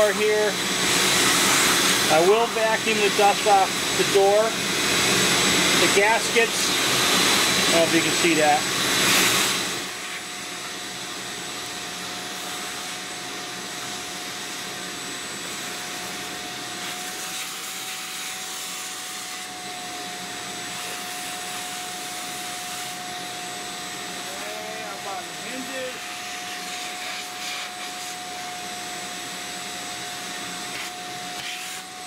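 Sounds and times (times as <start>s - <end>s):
shop vacuum sucking dust: 0.0s - 32.0s.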